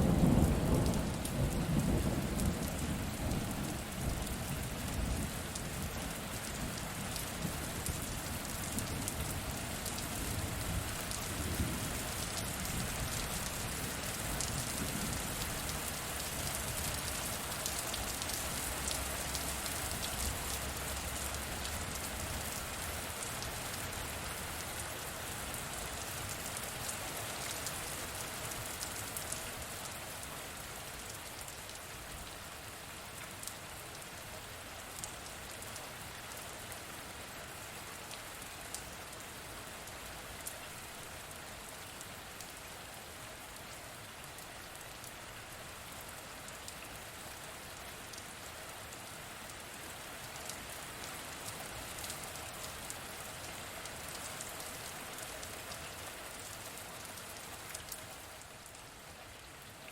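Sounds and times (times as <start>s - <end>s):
rain ticking on surface: 0.0s - 59.9s.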